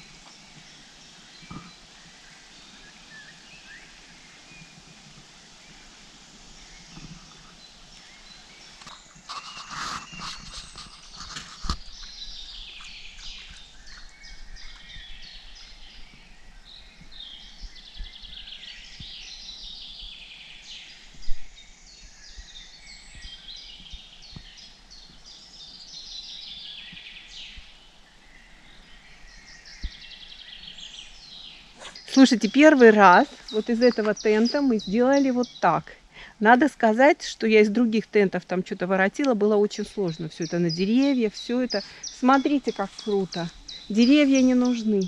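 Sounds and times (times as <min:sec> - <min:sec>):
songbirds singing: 0:00.0 - 0:45.0.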